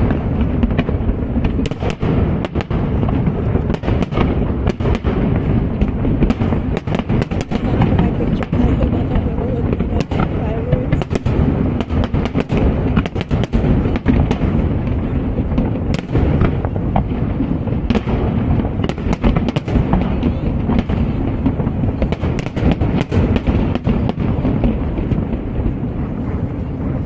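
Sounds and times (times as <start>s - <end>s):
fireworks cracks and bangs: 0.0s - 27.0s
low rumble of fireworks booms: 0.0s - 27.0s.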